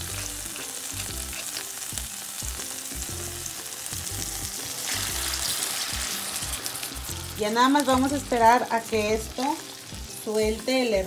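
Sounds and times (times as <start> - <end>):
sauce sizzling in a skillet: 0.0 - 11.0
soft background music: 0.0 - 11.0.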